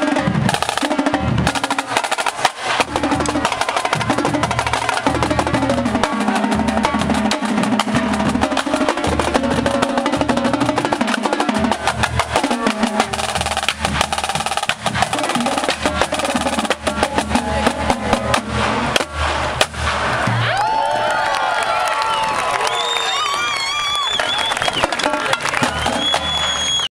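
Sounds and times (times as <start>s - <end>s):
snare drum strokes: 0.0s - 20.5s, 24.7s - 26.9s.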